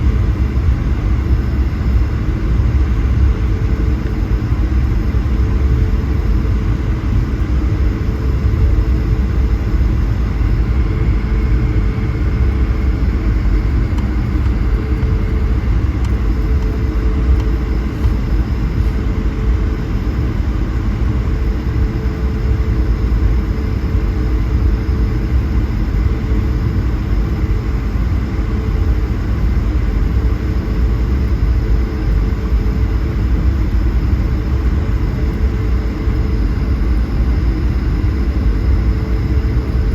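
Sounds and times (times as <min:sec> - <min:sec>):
aircraft cabin rumble: 0:00.0 - 0:39.9
constant hum: 0:00.0 - 0:39.9.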